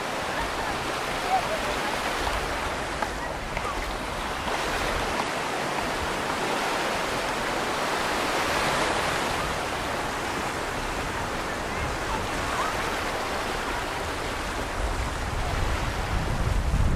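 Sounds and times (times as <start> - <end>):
ocean waves breaking: 0.0 - 16.9.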